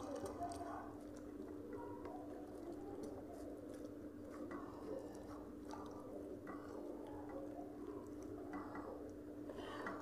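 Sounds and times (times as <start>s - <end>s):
chewing: 0.0s - 10.0s
wet squishing of rice by hand: 0.0s - 10.0s.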